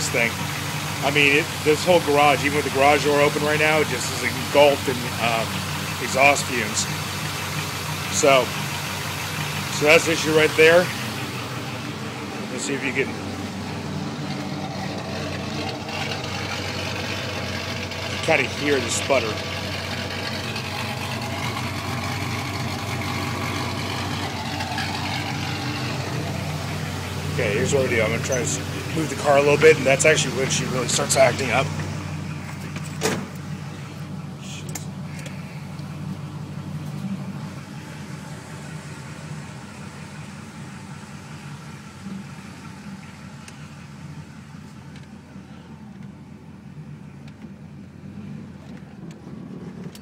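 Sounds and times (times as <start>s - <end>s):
engine idling roughly with misfire: 0.0s - 50.0s.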